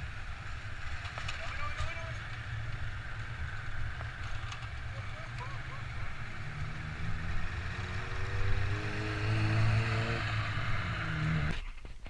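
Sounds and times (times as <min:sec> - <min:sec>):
vehicle engine running: 0:00.0 - 0:11.6
road noise: 0:00.0 - 0:12.0
wind: 0:00.0 - 0:12.0.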